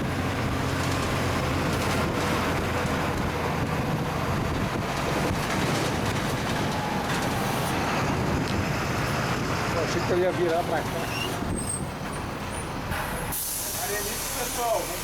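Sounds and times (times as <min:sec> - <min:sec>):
wind noise on microphone: 0:00.0 - 0:10.0, 0:11.0 - 0:13.5
vehicle rumble: 0:00.0 - 0:15.0.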